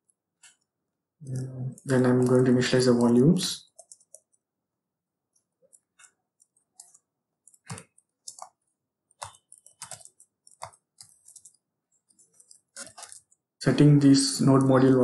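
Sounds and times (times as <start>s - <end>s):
computer keyboard typing: 0.0s - 4.5s, 5.3s - 15.0s.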